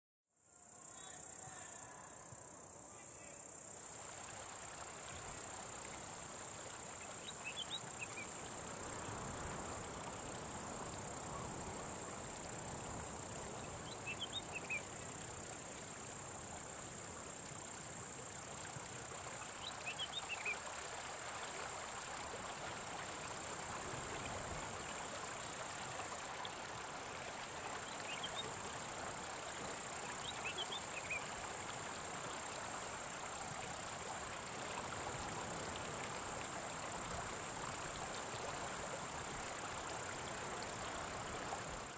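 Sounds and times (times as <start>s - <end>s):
insects shrilling drone: 0.4s - 41.9s.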